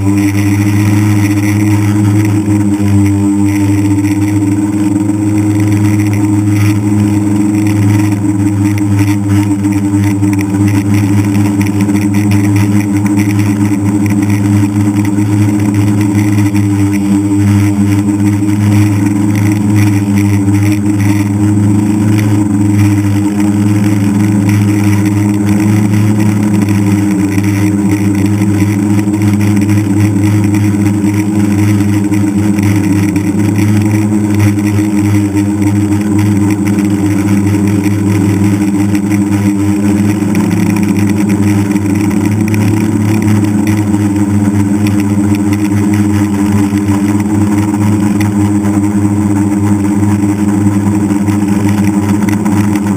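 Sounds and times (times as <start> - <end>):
drone motors buzzing: 0.0 - 52.9.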